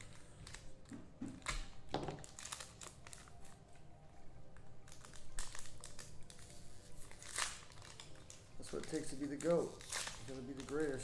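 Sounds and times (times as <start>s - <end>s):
card packaging crinkling: 0.0s - 3.8s, 4.7s - 11.0s.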